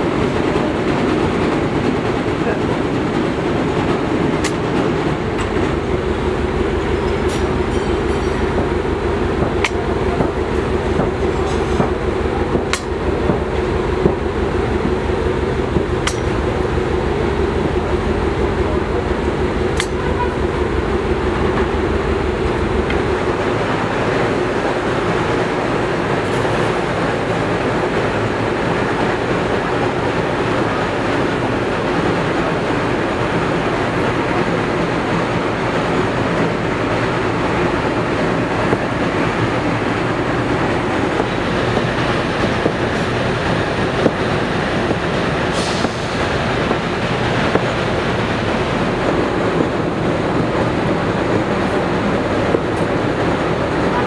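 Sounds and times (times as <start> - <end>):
loud mechanical rushing noise: 0.0 - 54.0.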